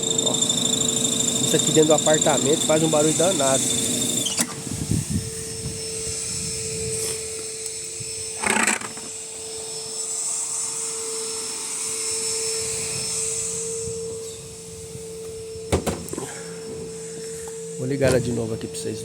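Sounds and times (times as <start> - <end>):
washing machine whine: 0.0 - 19.0.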